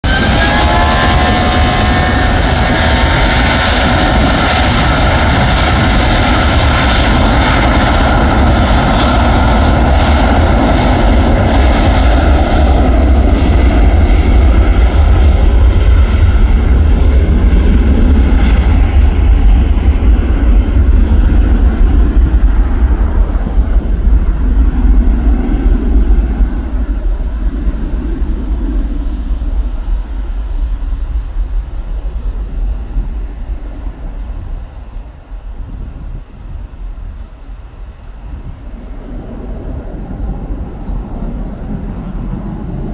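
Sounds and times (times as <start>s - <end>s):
airplane engines at takeoff: 0.0s - 42.9s
engine whine: 0.0s - 42.9s.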